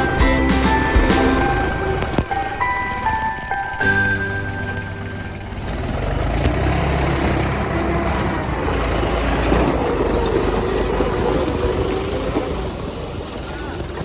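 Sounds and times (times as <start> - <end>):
tractor diesel engine under load: 0.0 - 14.0.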